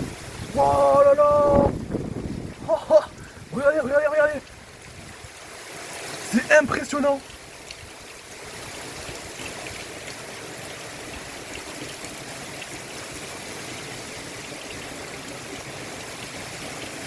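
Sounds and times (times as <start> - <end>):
heavy rain pouring: 0.0 - 17.0
drips and splashes: 1.8 - 17.0.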